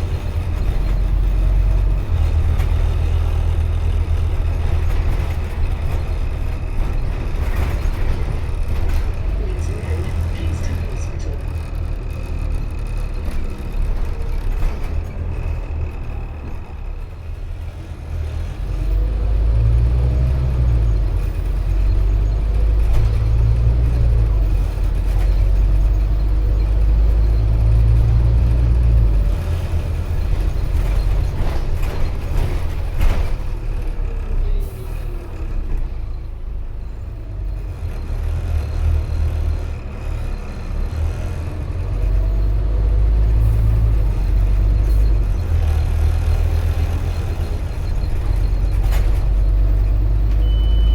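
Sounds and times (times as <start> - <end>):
bus engine rumbling: 0.0 - 50.9.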